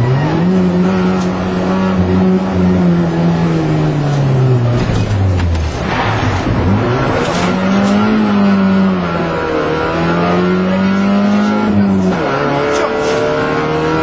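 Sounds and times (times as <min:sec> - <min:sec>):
rally car engine accelerating: 0:00.0 - 0:14.0
tyre and road noise: 0:00.0 - 0:14.0.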